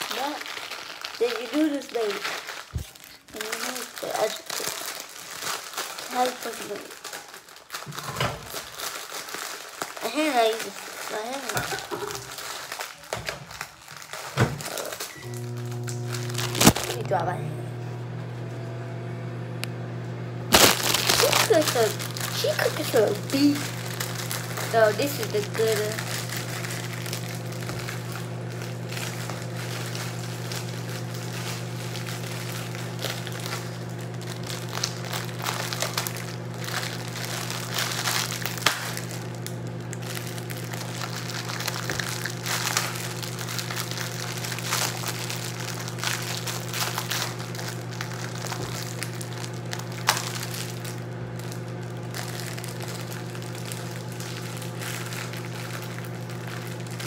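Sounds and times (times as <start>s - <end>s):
plastic packet crinkling: 0.0s - 17.2s, 20.5s - 57.0s.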